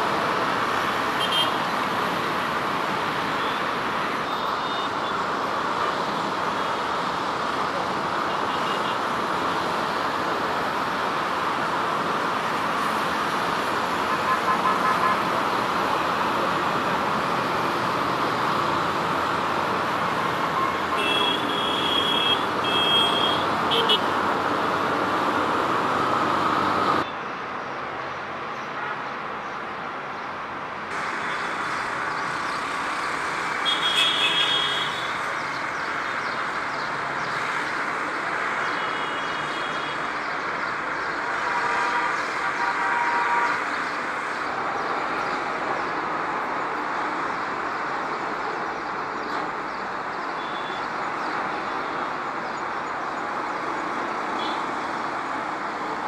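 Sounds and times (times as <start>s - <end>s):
road traffic noise: 0.0s - 56.0s.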